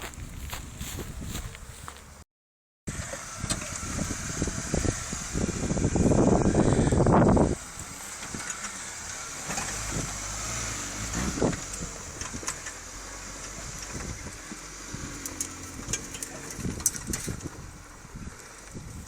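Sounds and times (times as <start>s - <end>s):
off-road vehicle engine running: 0.0s - 2.2s, 2.9s - 19.0s.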